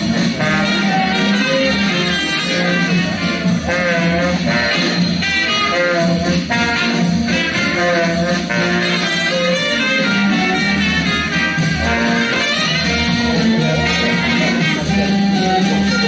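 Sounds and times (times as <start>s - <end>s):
live dance band playing: 0.0s - 16.0s
saxophone and brass: 0.0s - 16.0s.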